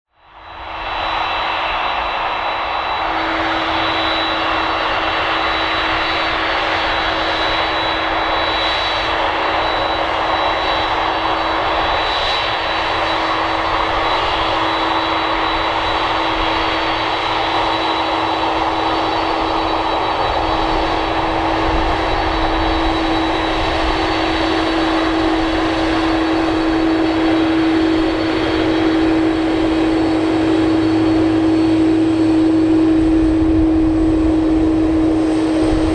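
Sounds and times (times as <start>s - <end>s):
jet engines running: 0.1s - 35.9s.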